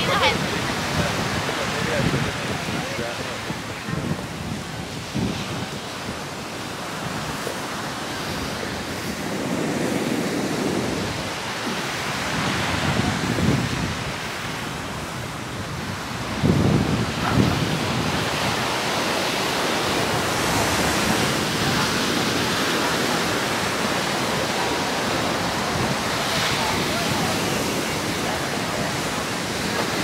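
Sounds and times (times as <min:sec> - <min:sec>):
surf breaking on sandy beach: 0:00.0 - 0:30.0
wind on microphone: 0:00.0 - 0:30.0.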